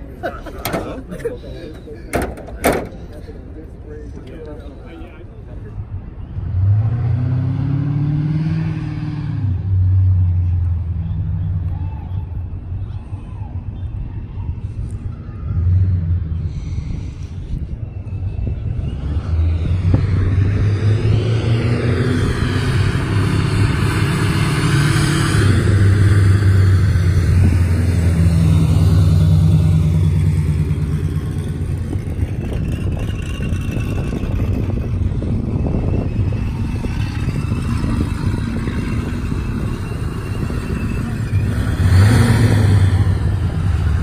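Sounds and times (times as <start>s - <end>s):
car engine rumbling: 0.0s - 44.0s.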